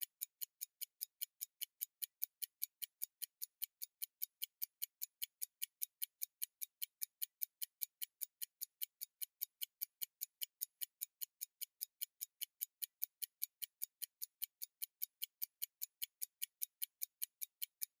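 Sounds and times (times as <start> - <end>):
pocket watch ticking: 0.0 - 18.0.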